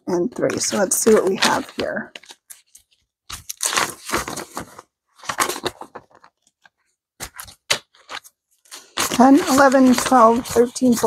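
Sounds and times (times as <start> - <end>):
banknotes rustling and crinkling: 0.1 - 11.0.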